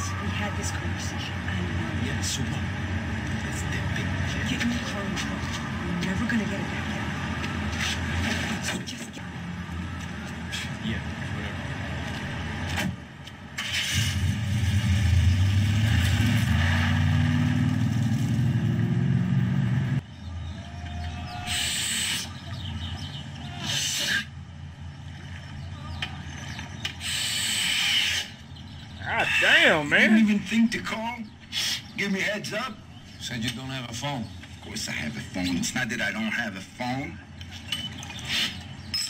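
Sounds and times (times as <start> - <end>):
car engine rumbling: 0.0 - 39.0.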